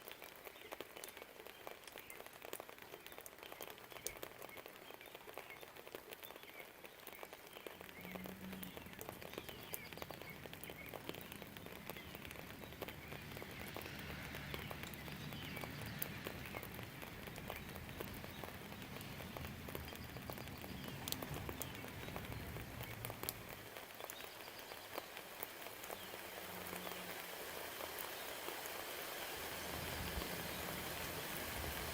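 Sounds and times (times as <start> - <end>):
faint birdsong: 0.0 - 31.9
raindrops ticking close by: 0.0 - 31.9
steady rain: 0.0 - 31.9.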